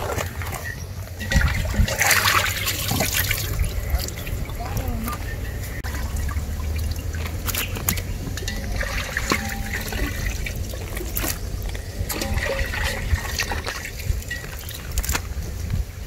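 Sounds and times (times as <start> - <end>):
water sloshing in metal pot: 0.0 - 15.8
steady low rumble: 0.0 - 16.0.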